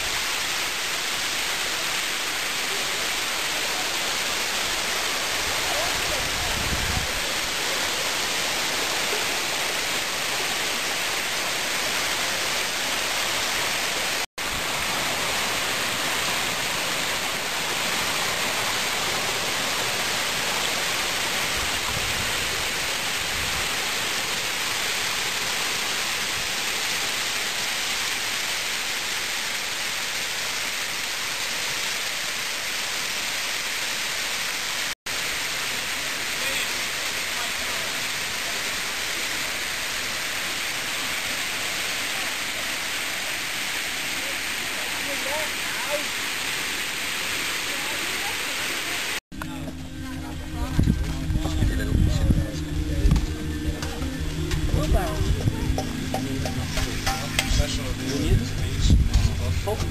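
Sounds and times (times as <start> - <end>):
waterfall pouring into pool: 0.0 - 49.2
creek water rushing over rocks: 0.0 - 59.9.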